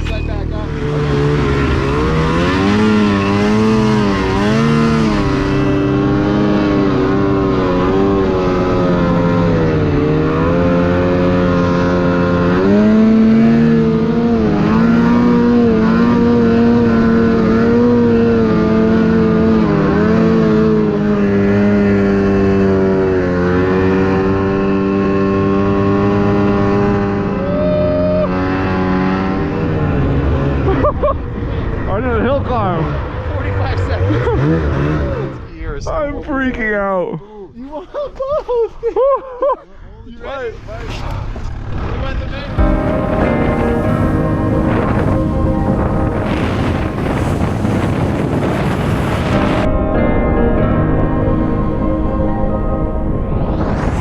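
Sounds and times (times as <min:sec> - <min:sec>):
snowmobile engine revving: 0:00.0 - 0:36.9, 0:40.2 - 0:54.0.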